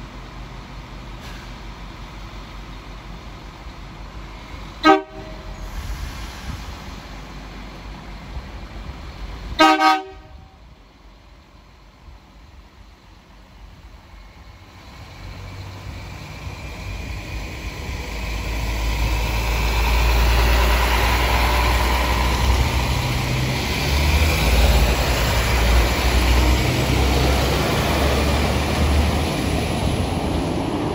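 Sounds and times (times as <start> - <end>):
diesel train engine hum: 0.0 - 30.9
train running noise: 0.0 - 30.9.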